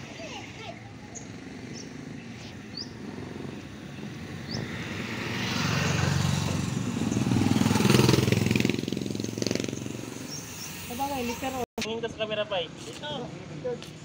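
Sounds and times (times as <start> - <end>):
motorcycle engine passing by: 0.1 - 11.7.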